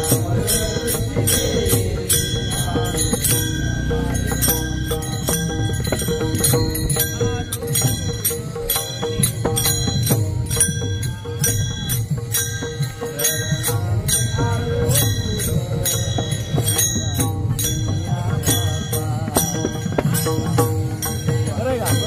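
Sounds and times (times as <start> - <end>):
chanted singing: 0.0 - 22.0
metal hand cymbals: 0.0 - 22.0.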